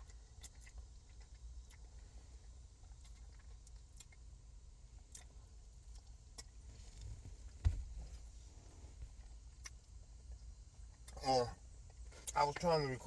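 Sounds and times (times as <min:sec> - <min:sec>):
faint eating clicks: 0:00.0 - 0:08.3, 0:09.0 - 0:13.0
low steady rumble: 0:00.0 - 0:13.0.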